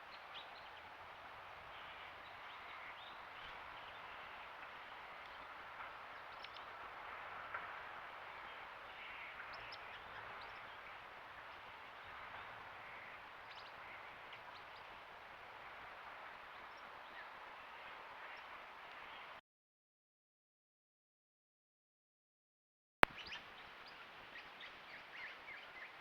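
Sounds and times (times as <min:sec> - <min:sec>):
steady background hiss: 0:00.0 - 0:19.4, 0:23.1 - 0:26.0.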